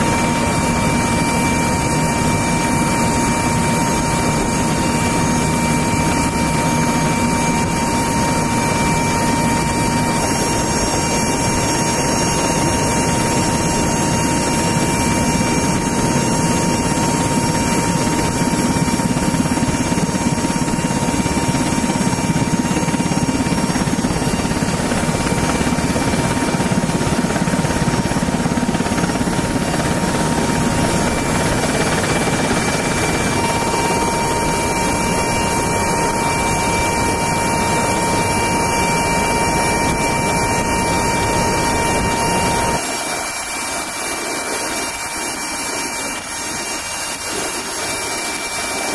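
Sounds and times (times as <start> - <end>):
aircraft engines roaring: 0.0 - 48.9
high-pitched whine: 0.0 - 48.9.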